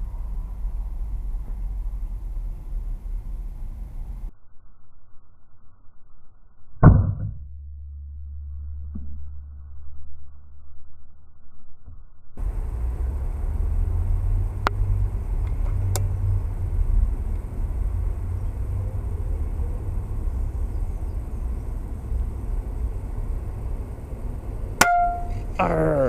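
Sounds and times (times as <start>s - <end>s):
low outdoor rumble: 0.0s - 4.4s, 6.0s - 26.0s.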